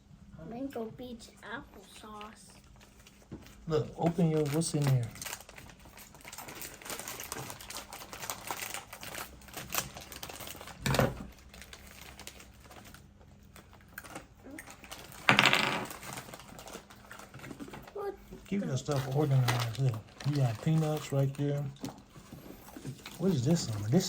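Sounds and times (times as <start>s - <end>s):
plastic wrappers crinkling: 2.5s - 24.0s.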